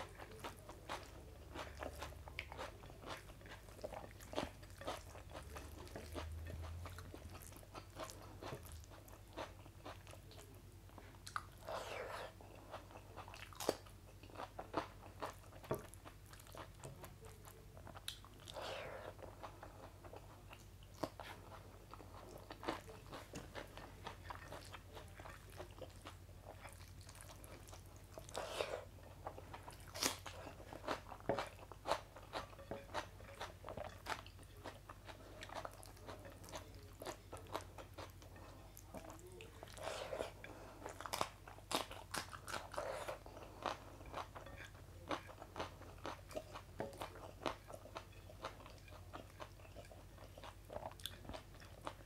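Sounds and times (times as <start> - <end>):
close chewing: 0.0 - 52.0.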